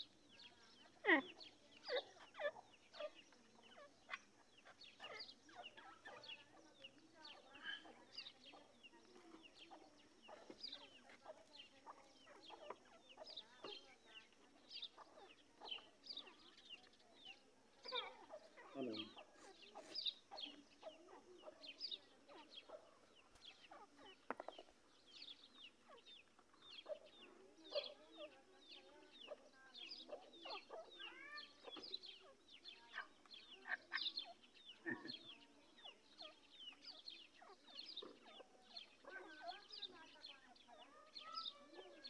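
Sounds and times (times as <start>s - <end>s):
birds chirping and clucking: 0.0s - 42.0s.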